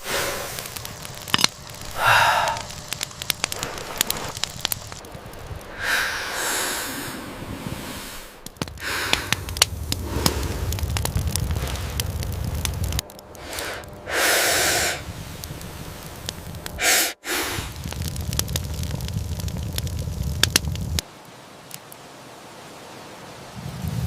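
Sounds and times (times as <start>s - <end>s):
fire hissing: 0.0s - 21.1s
campfire crackling and popping: 0.0s - 22.0s.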